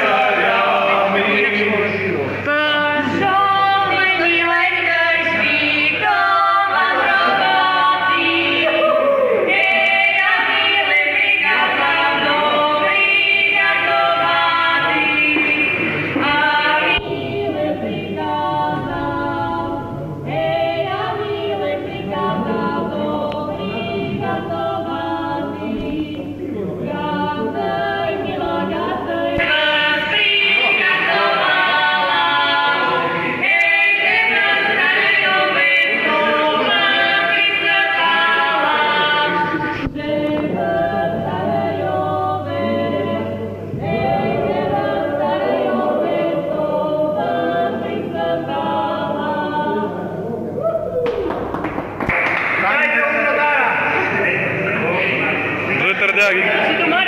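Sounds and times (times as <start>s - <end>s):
group singing folk song: 0.0s - 57.0s.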